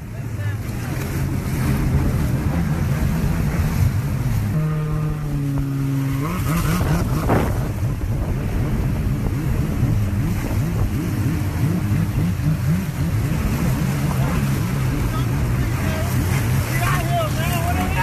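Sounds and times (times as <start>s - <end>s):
jet ski engine running: 0.0s - 18.0s
water rushing under hull: 0.0s - 18.0s
wind buffeting microphone: 0.6s - 18.0s.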